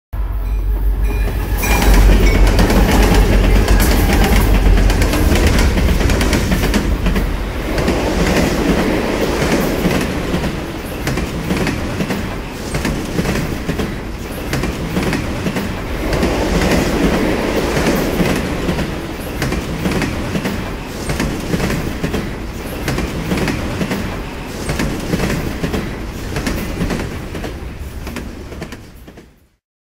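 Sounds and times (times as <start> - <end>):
freight train rolling past: 0.2 - 29.5
wheels clacking over rail joints: 1.0 - 29.4.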